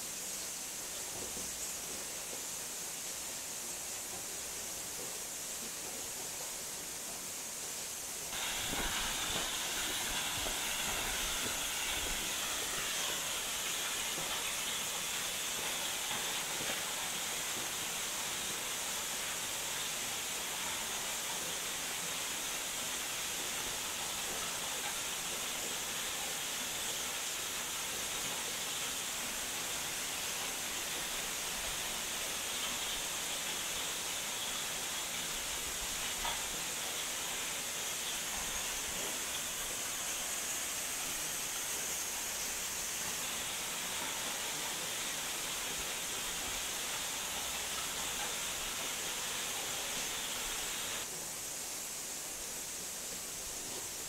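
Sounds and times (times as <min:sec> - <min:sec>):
waterfall rushing hiss: 0:00.0 - 0:54.0.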